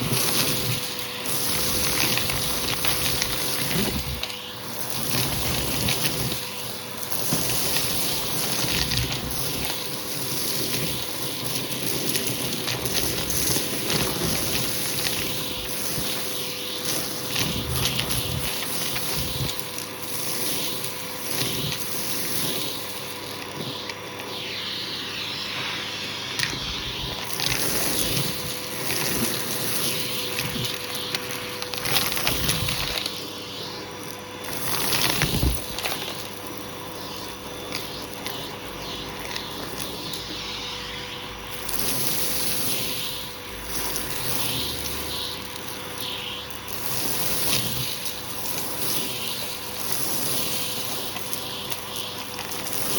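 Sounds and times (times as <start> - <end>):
air rushing through vacuum hose: 0.0 - 52.9
vacuum cleaner running: 0.0 - 52.9.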